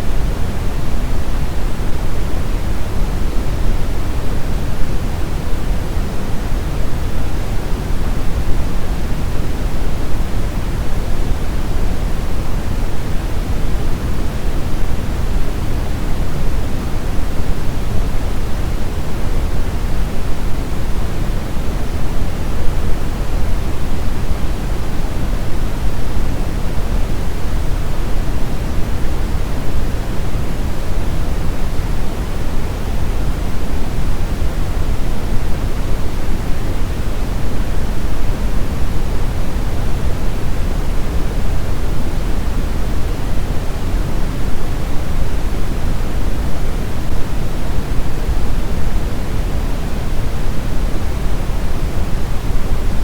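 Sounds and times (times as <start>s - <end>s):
brown noise hiss: 0.0s - 53.0s.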